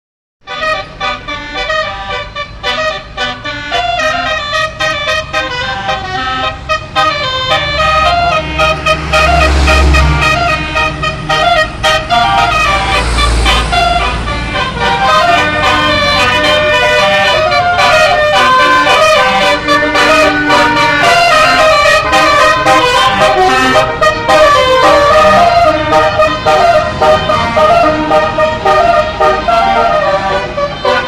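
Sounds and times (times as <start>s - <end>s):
tuned air horns playing melody: 0.4s - 31.0s.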